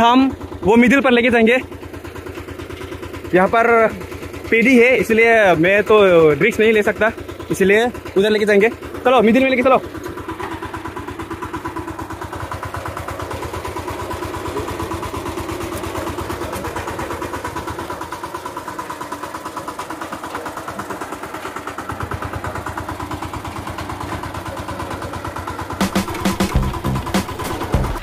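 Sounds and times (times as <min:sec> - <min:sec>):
diesel engine chugging: 0:00.0 - 0:28.0.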